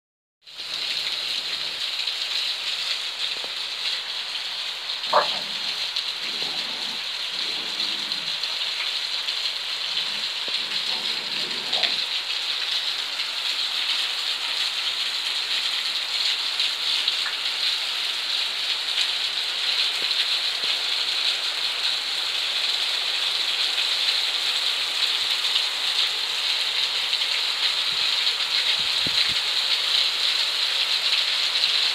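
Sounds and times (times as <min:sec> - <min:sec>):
rain on concrete: 0:00.4 - 0:31.9.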